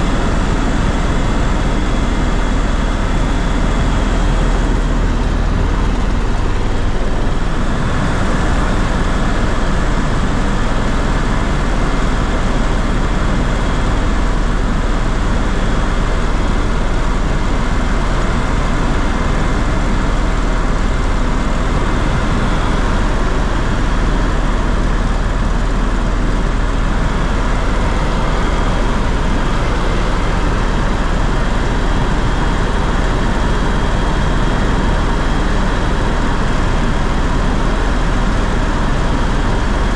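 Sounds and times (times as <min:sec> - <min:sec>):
aircraft cabin engine drone: 0:00.0 - 0:39.9
faint steady whines: 0:00.0 - 0:39.9.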